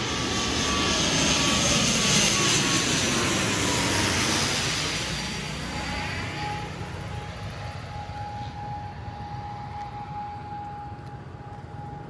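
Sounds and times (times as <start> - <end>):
steady engine whine: 0.0 - 12.0
turboprop airplane flying overhead: 0.0 - 12.0.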